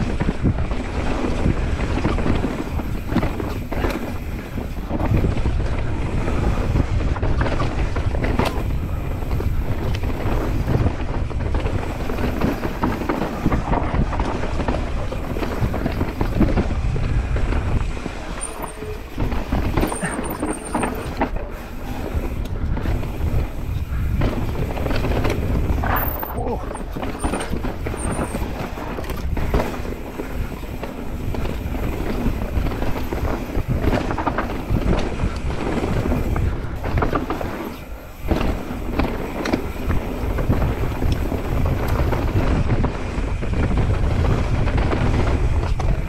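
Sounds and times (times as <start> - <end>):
bike knocks and rattles: 0.0 - 46.0
bike tyre noise on dirt: 0.0 - 46.0
wind rush on microphone: 0.0 - 46.0.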